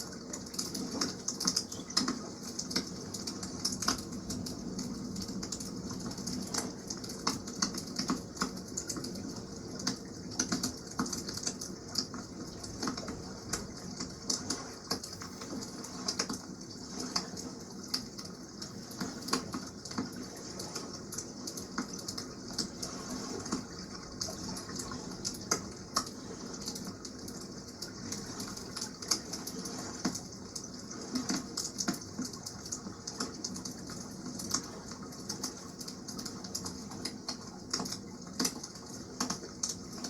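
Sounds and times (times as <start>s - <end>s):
steady wash of water: 0.0s - 40.0s.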